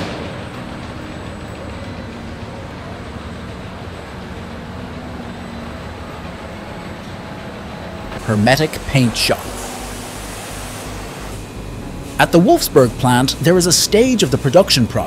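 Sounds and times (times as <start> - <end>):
overhead conveyor running: 0.0 - 15.0.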